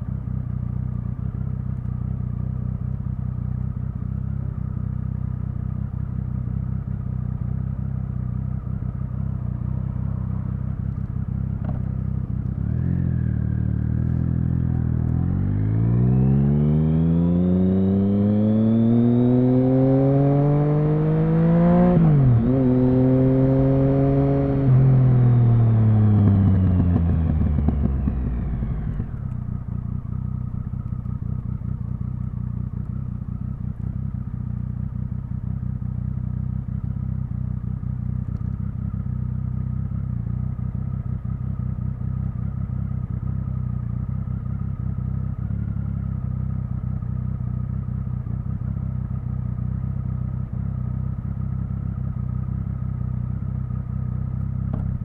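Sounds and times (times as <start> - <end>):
motorcycle engine revving: 2.4 - 55.0.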